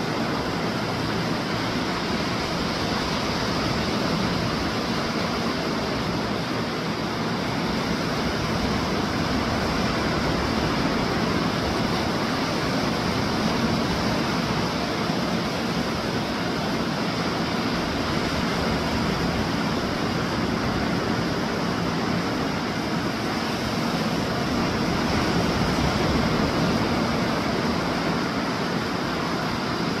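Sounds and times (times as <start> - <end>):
surf breaking on beach: 0.0 - 30.0.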